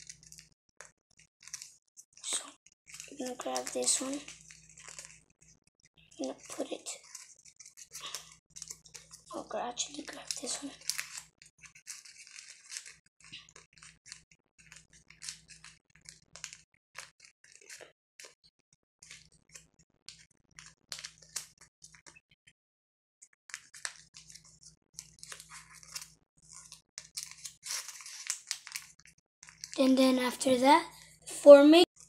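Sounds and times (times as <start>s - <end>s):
paper crinkling and rustling: 0.0s - 18.4s, 19.0s - 22.2s, 23.5s - 30.6s.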